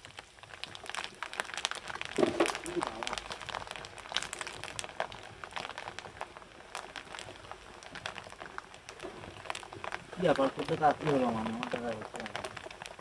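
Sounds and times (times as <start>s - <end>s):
corn popping in hot oil: 0.0s - 13.0s.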